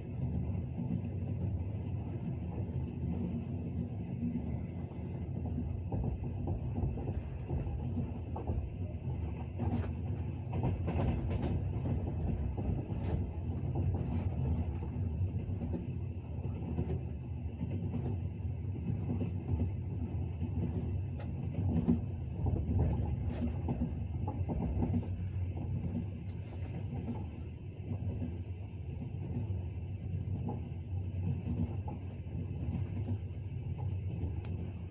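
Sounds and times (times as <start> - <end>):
train wheels clattering on rails: 0.3 - 34.9.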